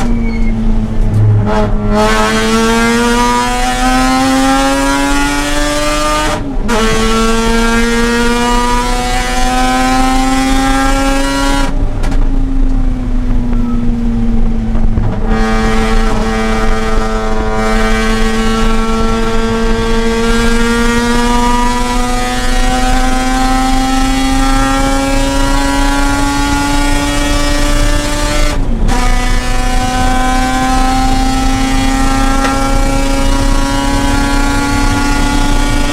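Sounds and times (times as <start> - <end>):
rotary engine accelerating: 0.0 - 35.9.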